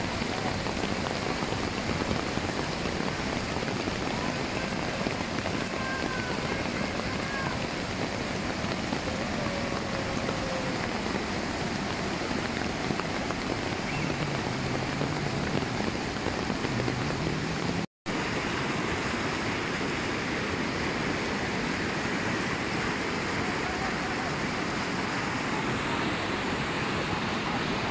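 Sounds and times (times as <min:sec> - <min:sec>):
whitewater rapids rushing: 0:00.0 - 0:27.9.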